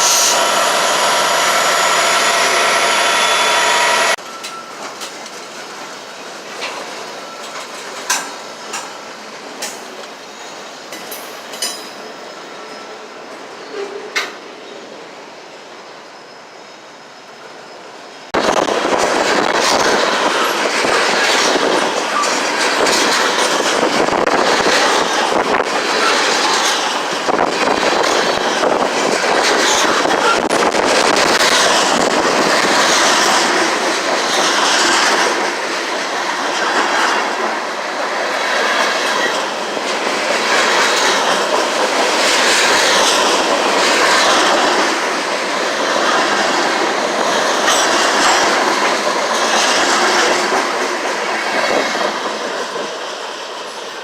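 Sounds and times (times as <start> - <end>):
freight train wheels clattering: 0.0 - 12.4, 18.3 - 54.0.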